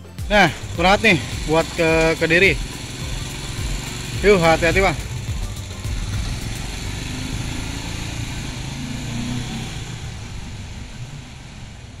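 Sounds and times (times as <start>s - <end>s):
small motorcycle engine pulling away: 0.5s - 12.0s.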